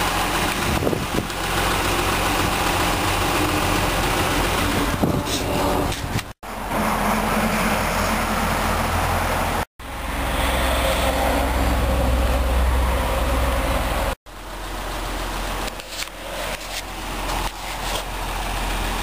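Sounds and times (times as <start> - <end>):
car engine idling: 0.0 - 19.0
outdoor traffic rush: 0.0 - 19.0.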